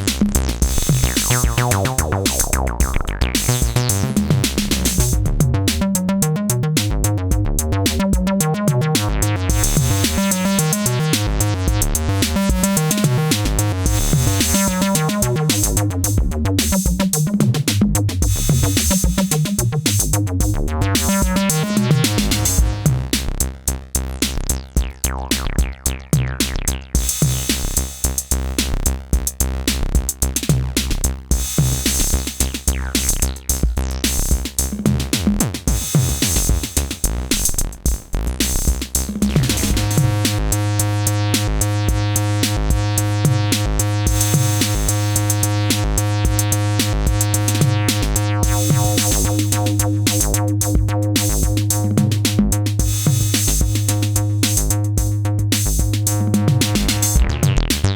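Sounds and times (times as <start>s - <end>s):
acid bassline: 0.0s - 57.9s
drum machine beat: 0.0s - 57.9s.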